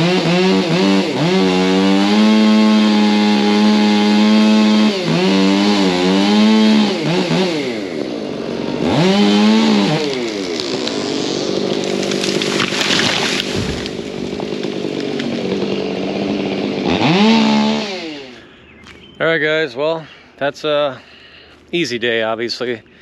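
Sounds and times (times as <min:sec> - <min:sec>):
chainsaw revving: 0:00.0 - 0:18.5.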